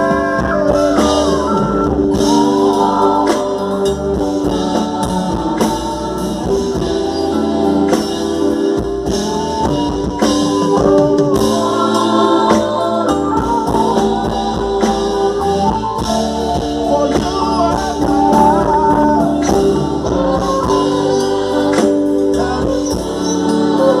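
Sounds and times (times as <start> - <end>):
gospel singers with live band: 0.0 - 24.0.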